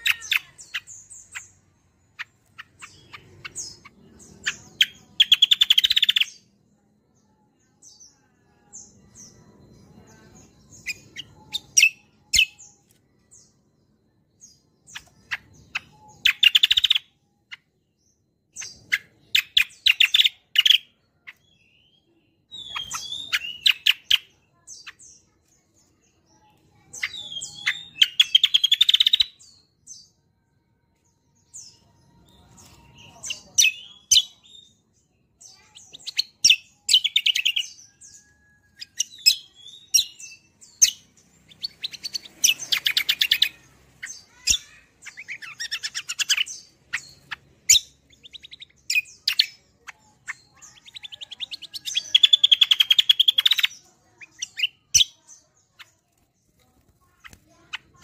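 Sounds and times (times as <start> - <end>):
songbird trilling and chirping: 0.0 - 58.0.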